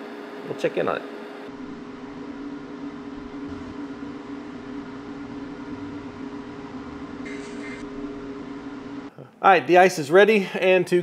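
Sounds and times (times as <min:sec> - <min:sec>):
fridge compressor and fans humming: 0:00.0 - 0:11.0.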